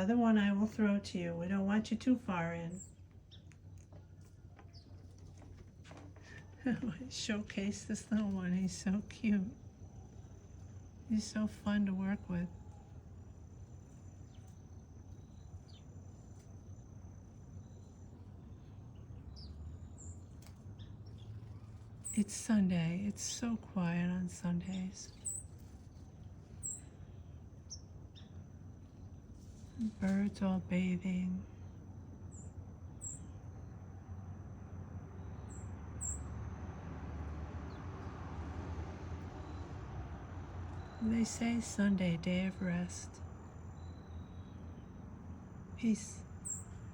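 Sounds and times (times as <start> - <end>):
small birds chirping: 0.0 - 34.3, 35.1 - 36.5, 37.6 - 38.1, 40.4 - 46.9
cricket trilling: 0.0 - 46.9
low steady hum: 0.0 - 46.9.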